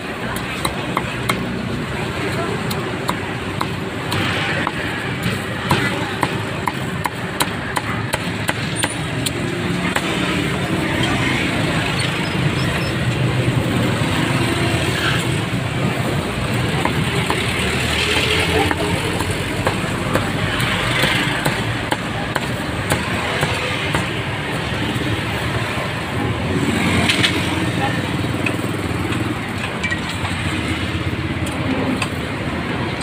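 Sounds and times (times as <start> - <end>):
traffic noise: 0.0 - 33.0.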